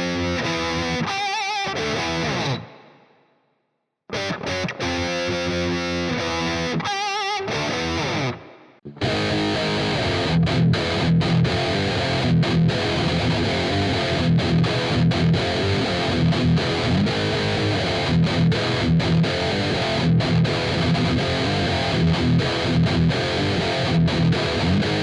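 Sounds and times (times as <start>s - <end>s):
distorted electric guitar: 0.0s - 3.0s, 4.1s - 25.0s.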